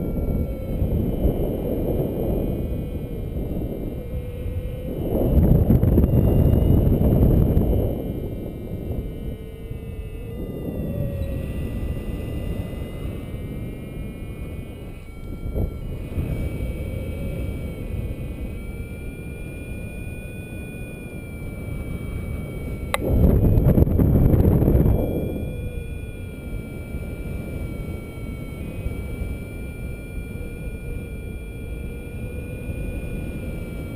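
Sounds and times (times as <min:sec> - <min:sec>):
faint steady high tones: 0:00.0 - 0:33.9
wind rushing over microphone: 0:00.0 - 0:33.9.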